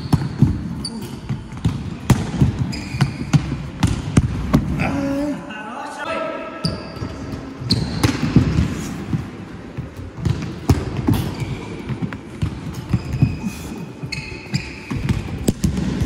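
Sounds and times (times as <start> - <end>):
balls kicked and bouncing on wood: 0.0 - 4.8, 7.0 - 13.4, 14.1 - 16.0.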